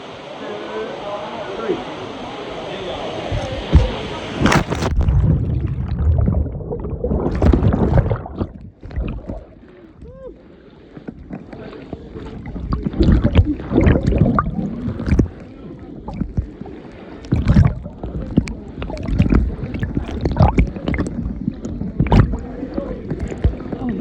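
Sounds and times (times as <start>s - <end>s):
water splashing and sloshing: 2.9s - 24.0s.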